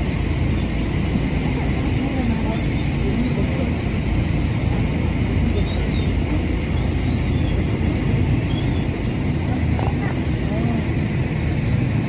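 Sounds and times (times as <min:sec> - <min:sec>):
traffic jam rumble: 0:00.0 - 0:12.0.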